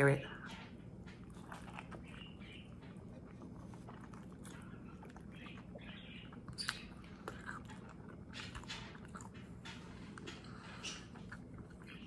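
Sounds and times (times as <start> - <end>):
faint chewing with mouth clicks: 0.1 - 12.0.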